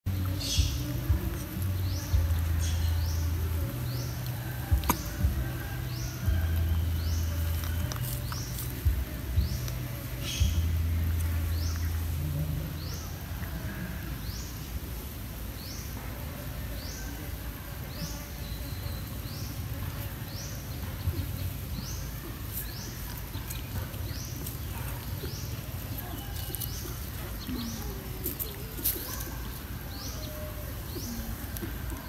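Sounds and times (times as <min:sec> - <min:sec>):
outdoor ambience: 0:00.0 - 0:32.0.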